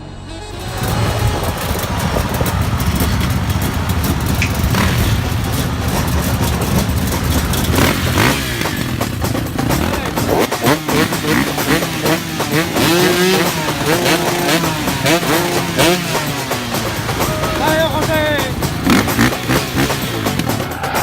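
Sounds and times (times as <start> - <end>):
motorcycle engine running: 0.4 - 21.0.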